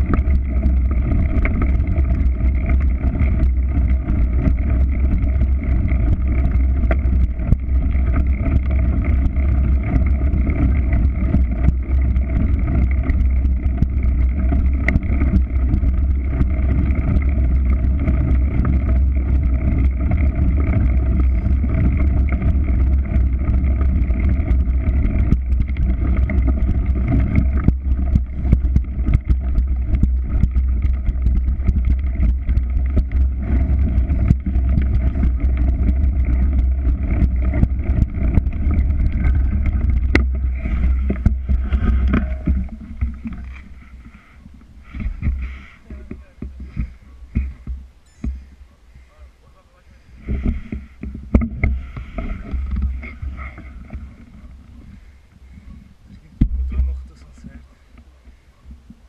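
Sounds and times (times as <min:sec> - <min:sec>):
wind buffeting microphone: 0:00.0 - 0:57.7
motor droning: 0:00.0 - 0:59.0.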